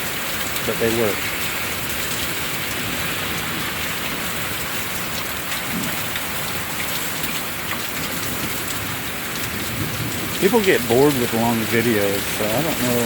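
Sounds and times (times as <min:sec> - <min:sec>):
hailstones striking hard surfaces: 0:00.0 - 0:13.0
heavy rain pouring: 0:00.0 - 0:13.0.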